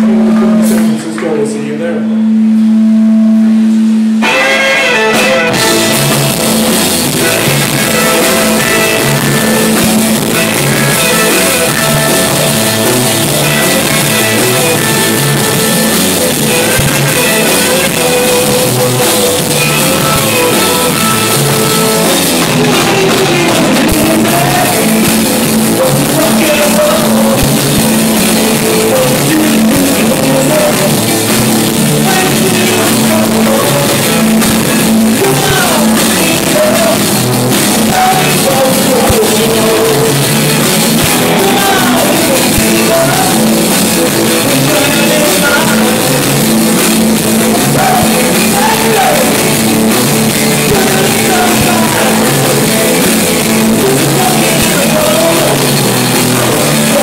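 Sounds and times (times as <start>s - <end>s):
drum kit: 0.0s - 1.6s, 2.2s - 57.0s
electric guitars: 0.0s - 57.0s
person singing: 4.2s - 57.0s.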